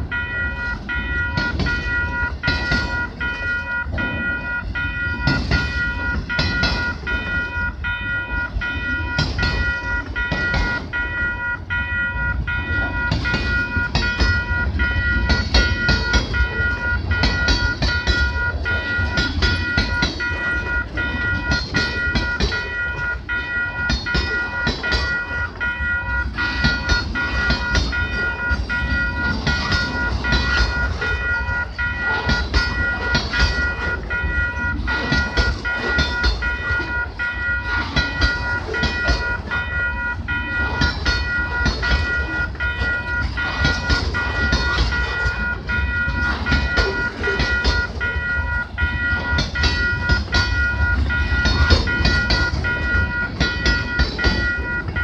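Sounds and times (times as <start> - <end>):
crossing warning bell ringing: 0.0 - 55.0
freight cars rumbling: 0.0 - 55.0
wheels clicking over rail joints: 0.0 - 55.0.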